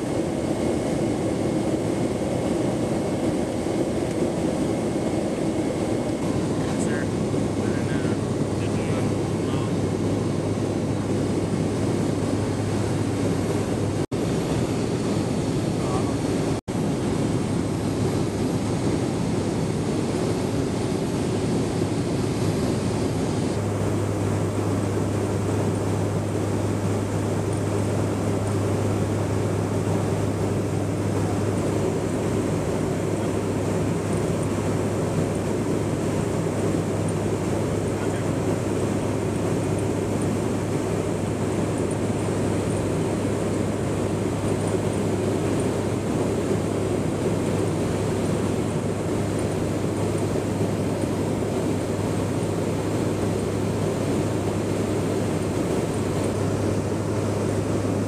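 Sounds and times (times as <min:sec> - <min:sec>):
turboprop engines droning: 0:00.0 - 0:58.0.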